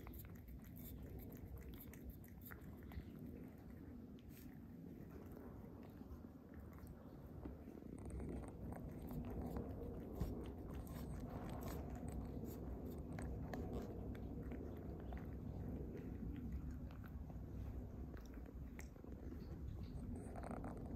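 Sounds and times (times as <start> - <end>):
cat licking and chewing: 0.0 - 20.9.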